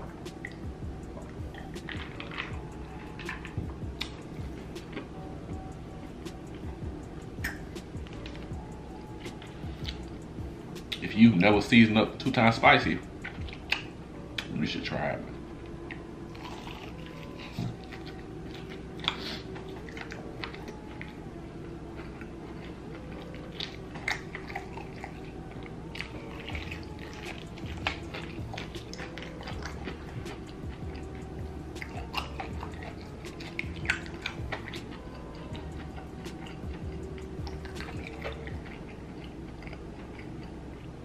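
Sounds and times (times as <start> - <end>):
wet chewing: 0.0 - 5.1, 7.4 - 10.2, 13.0 - 14.5, 15.7 - 21.3, 21.9 - 41.0.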